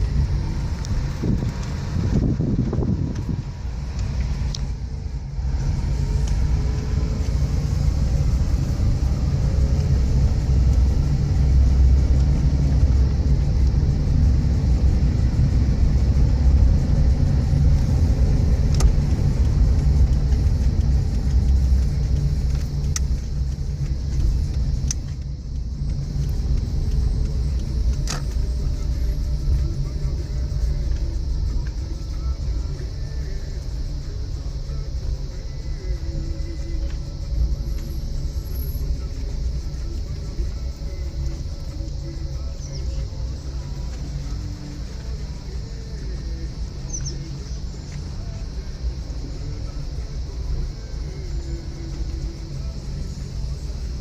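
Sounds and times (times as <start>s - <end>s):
faint ticks: 0.0s - 54.0s
motor vehicle rumbling: 0.0s - 54.0s.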